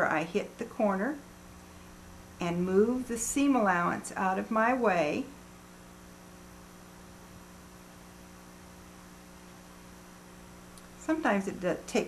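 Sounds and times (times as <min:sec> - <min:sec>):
faint electrical mains hum: 0:00.0 - 0:12.0.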